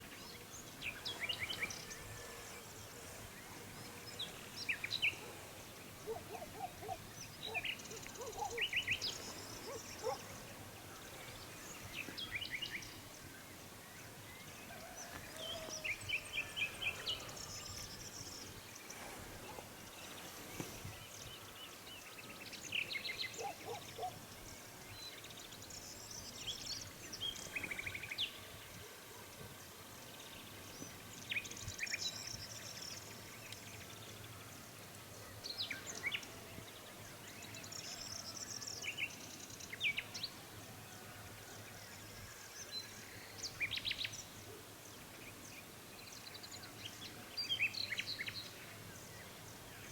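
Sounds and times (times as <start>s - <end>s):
faint background hiss: 0.0s - 49.9s.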